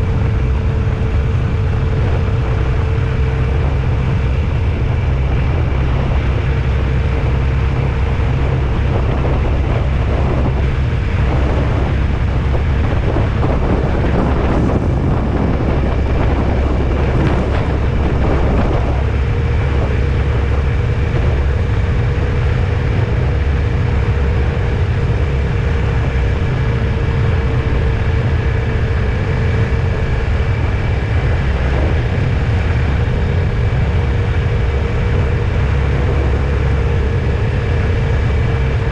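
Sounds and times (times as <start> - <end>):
faint constant hum: 0.0 - 38.9
vehicle engine and road noise: 0.0 - 38.9.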